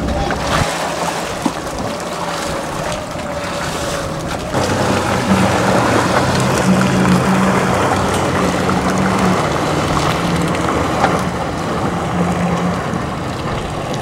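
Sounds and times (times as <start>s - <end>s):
jet ski engine: 0.0s - 14.0s
water churning: 0.0s - 14.0s
wind buffeting microphone: 0.0s - 14.0s.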